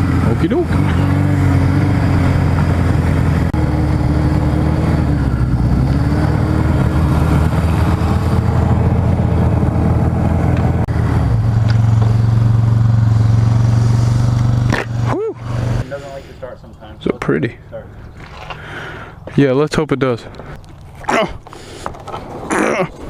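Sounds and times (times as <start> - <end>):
engine running: 0.0 - 19.4.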